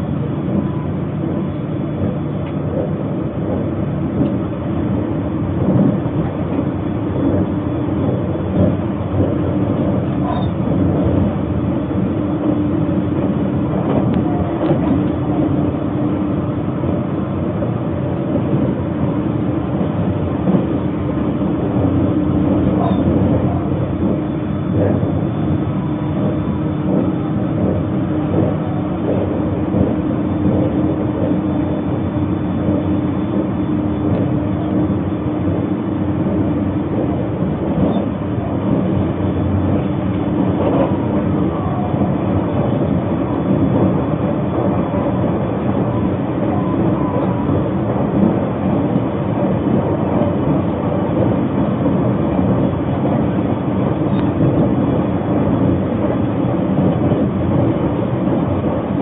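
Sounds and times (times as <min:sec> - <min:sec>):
constant low hum: 0:00.0 - 0:59.0
train cabin rumble: 0:00.0 - 0:59.0.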